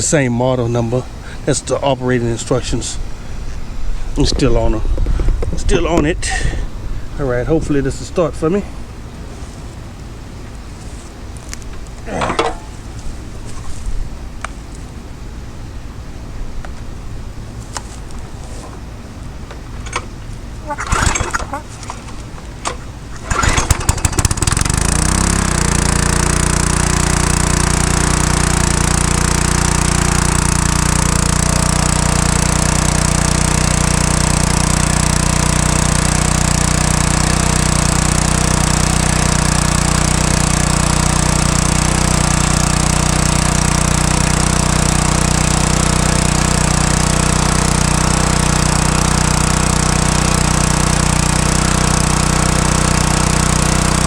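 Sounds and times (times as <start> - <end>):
engine pull-started and running: 4.1 - 54.0.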